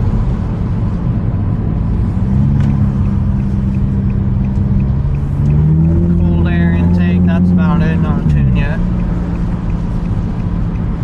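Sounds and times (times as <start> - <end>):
car engine low rumble: 0.0 - 11.0
road noise: 0.0 - 11.0.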